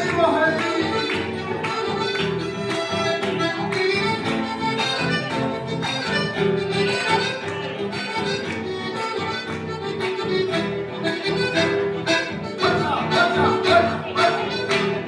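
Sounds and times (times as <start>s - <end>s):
accordion melody: 0.0s - 15.0s
strummed guitar chords: 0.0s - 15.0s.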